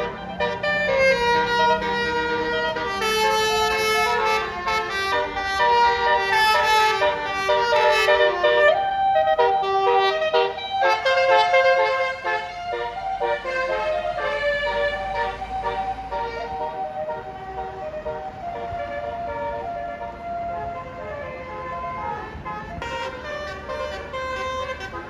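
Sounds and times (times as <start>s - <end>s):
bus air horns playing melody: 0.0s - 25.0s
low bus engine hum: 0.0s - 25.0s.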